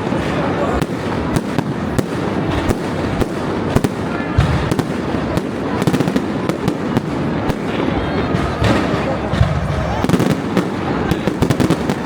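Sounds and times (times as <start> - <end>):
fireworks crackling: 0.0 - 12.0
fireworks cracks and bangs: 0.0 - 12.0
fireworks rumbling: 0.0 - 12.0.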